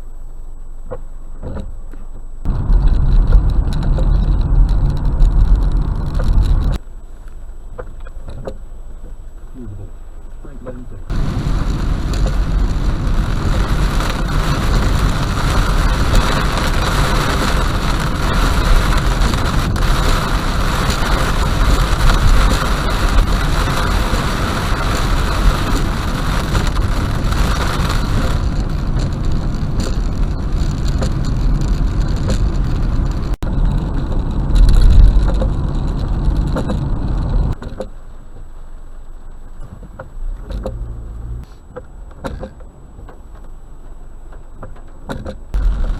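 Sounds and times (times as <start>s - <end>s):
wet road noise: 0.0s - 45.9s
rain on car: 2.4s - 45.9s.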